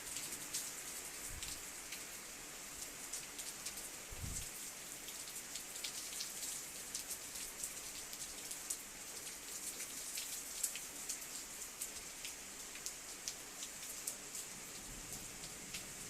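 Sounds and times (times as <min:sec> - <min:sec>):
heavy rain and sleet hissing: 0:00.0 - 0:16.0.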